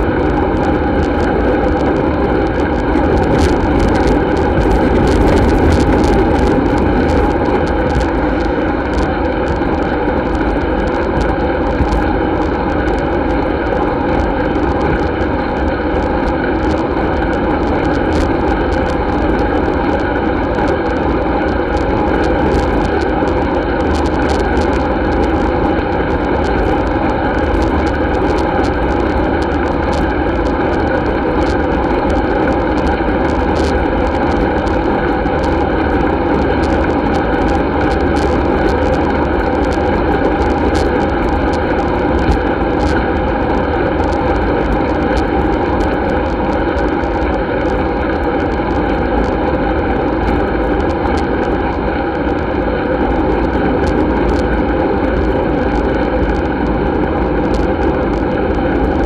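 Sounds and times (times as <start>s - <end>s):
tyres rumbling on asphalt: 0.0s - 58.7s
wind rush: 0.0s - 59.0s.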